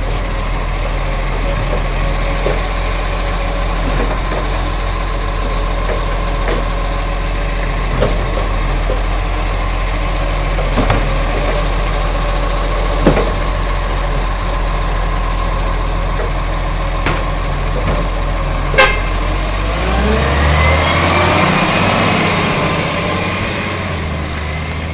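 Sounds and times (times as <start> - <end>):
garbage truck engine humming: 0.0 - 24.9
truck engine revving: 0.0 - 24.9.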